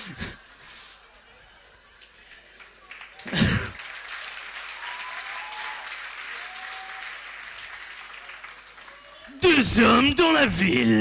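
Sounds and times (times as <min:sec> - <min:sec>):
audience applauding: 0:02.0 - 0:10.8.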